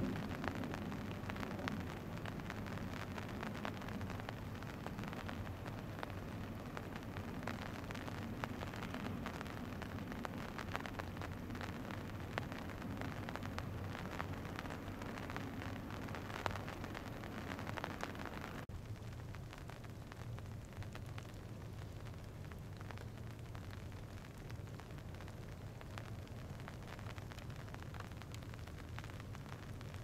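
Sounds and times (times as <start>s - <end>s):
low hum and hiss: 0.0s - 30.0s
small irregular clicks: 0.0s - 30.0s.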